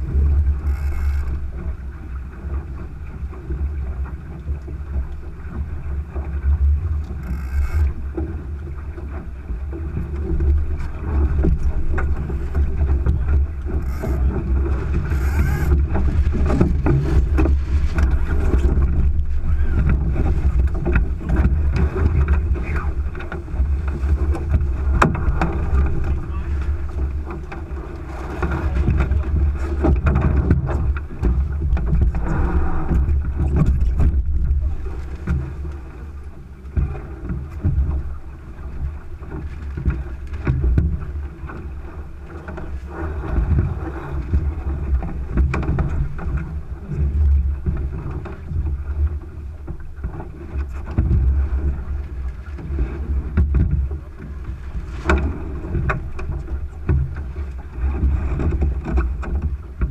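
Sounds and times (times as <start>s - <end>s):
water rushing along boat hull: 0.0s - 59.9s
wind buffeting microphone: 0.0s - 59.9s.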